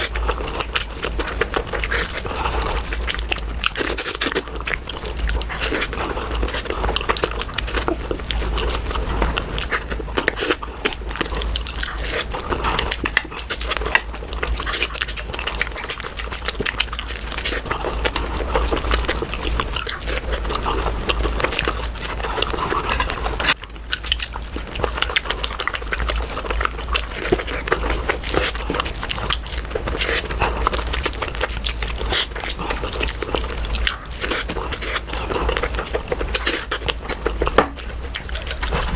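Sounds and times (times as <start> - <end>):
person chewing and smacking: 0.0 - 38.9.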